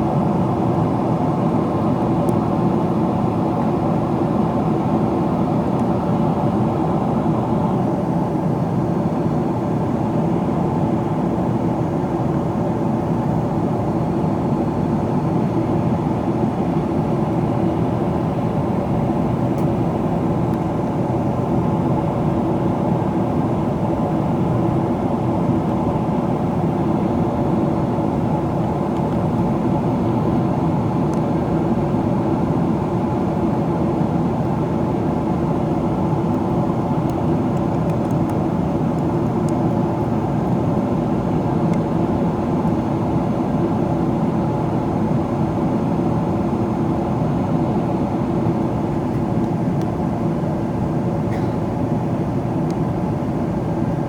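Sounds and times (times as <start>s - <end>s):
airflow rushing in cabin: 0.0s - 54.0s
jet engine noise: 0.0s - 54.0s.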